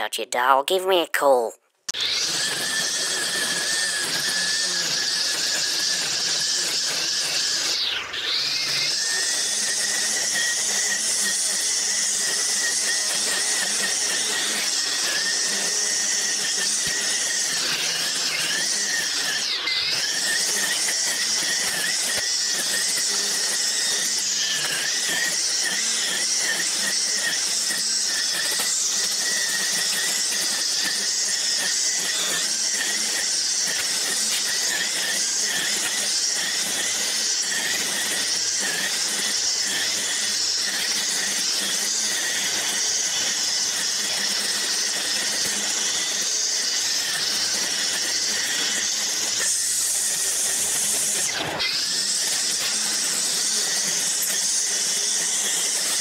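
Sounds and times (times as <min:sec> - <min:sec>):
string trimmer cutting grass: 0:01.9 - 0:56.0.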